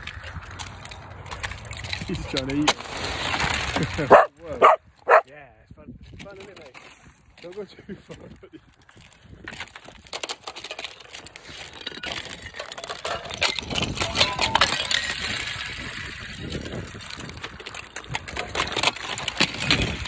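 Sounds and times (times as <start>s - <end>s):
ice cracking underfoot: 0.0s - 5.2s, 6.3s - 20.0s.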